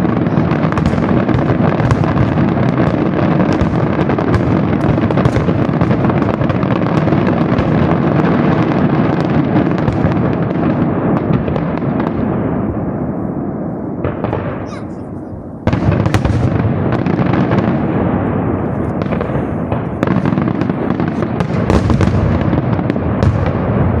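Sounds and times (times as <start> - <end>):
fireworks crackle: 0.0 - 24.0
fireworks rumbling barrage: 0.0 - 24.0.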